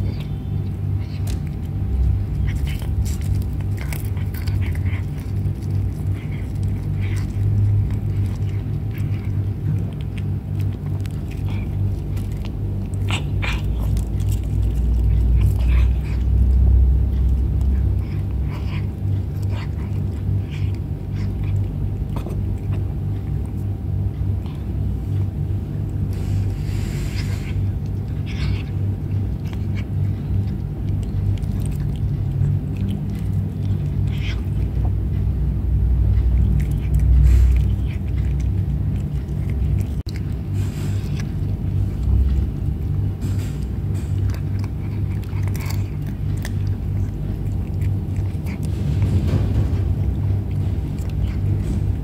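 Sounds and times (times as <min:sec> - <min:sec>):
cat chewing food: 0:00.0 - 0:52.0
steady low rumble: 0:00.0 - 0:52.0.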